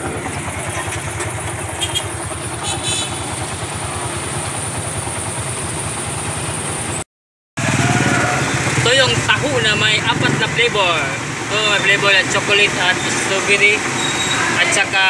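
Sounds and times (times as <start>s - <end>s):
diesel engine chugging: 0.0s - 7.0s, 7.6s - 15.0s.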